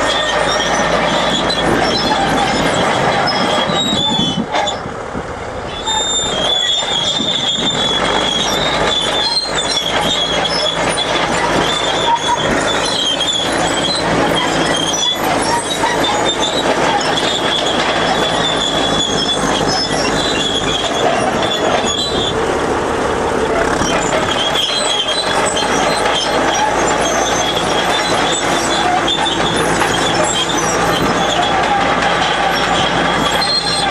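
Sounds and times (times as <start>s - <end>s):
high metallic squeal from tracks: 0.0s - 4.9s, 5.6s - 22.6s, 23.4s - 33.9s
crawler tractor running under load: 0.0s - 33.9s.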